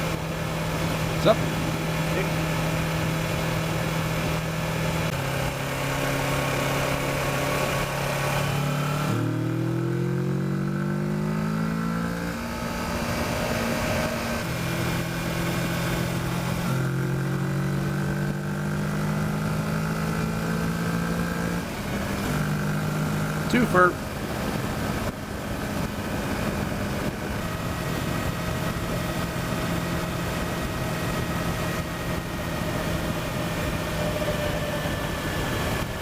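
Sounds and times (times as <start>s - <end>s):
motorcycle engine: 0.0s - 36.0s.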